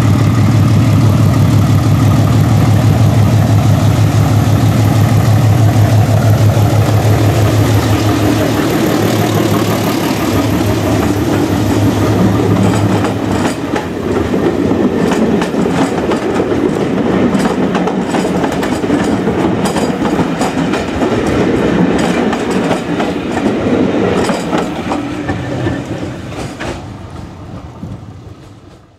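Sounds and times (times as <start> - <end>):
train wheels clattering over rail joints: 0.2 - 28.9.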